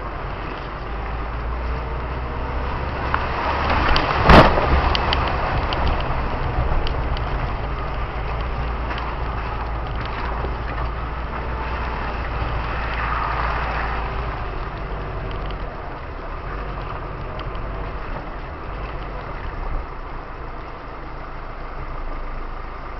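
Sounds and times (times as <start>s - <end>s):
car engine running: 0.0s - 22.9s
tyres in mud: 0.0s - 22.9s.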